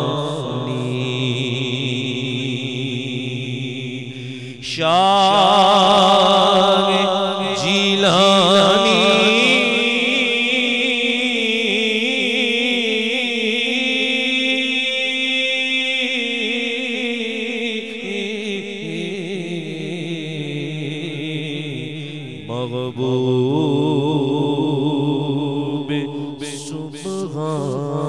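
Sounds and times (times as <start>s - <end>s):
man singing devotional verse: 0.0s - 28.0s.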